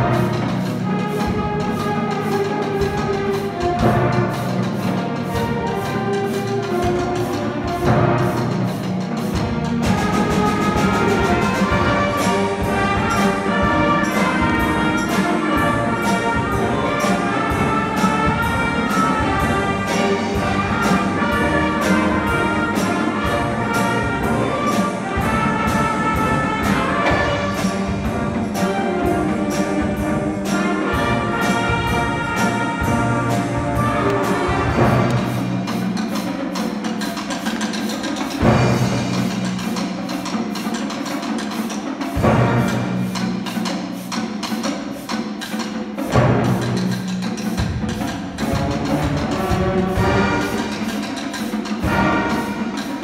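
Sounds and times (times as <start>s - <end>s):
concert band playing: 0.0s - 53.0s.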